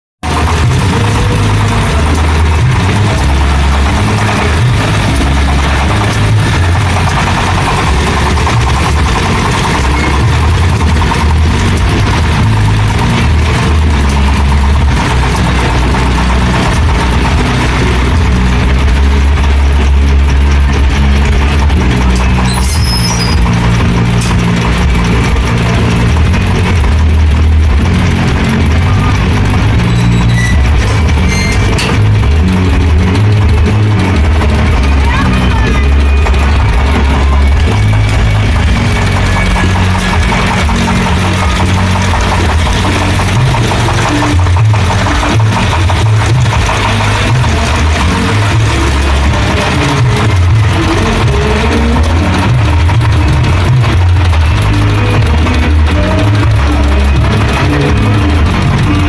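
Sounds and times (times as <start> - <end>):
diesel engine running noisily: 0.0 - 59.0.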